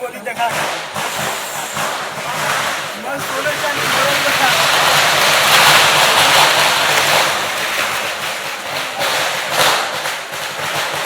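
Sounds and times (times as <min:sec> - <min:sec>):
rushing roar: 0:00.7 - 0:10.4.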